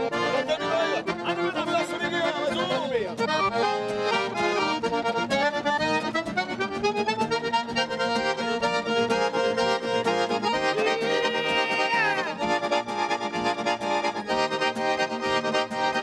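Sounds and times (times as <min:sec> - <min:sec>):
accordion: 0:00.0 - 0:16.0
strummed rhythm backing: 0:00.0 - 0:16.0.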